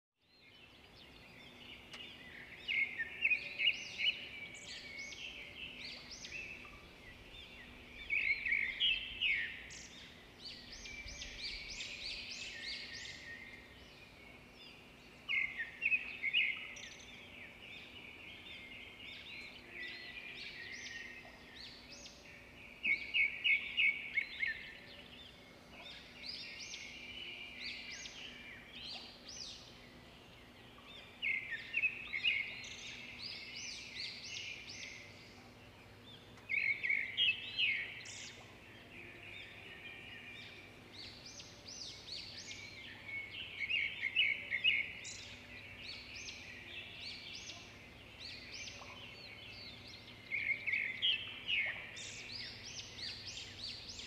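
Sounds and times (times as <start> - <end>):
bird chirping: 0.2 - 54.0.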